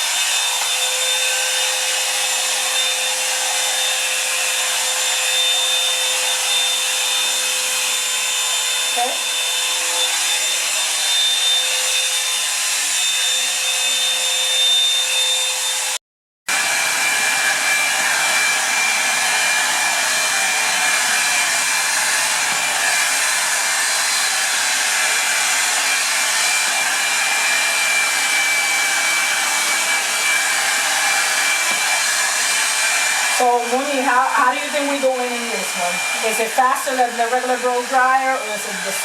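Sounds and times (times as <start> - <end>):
hair dryer airflow with whine: 0.0 - 39.0.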